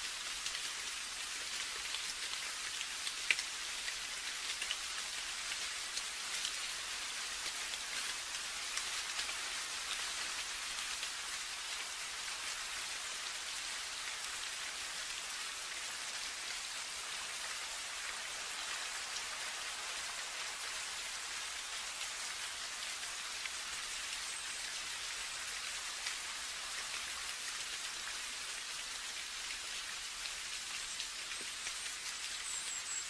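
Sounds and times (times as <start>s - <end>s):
steady rain pattering: 0.0s - 33.0s.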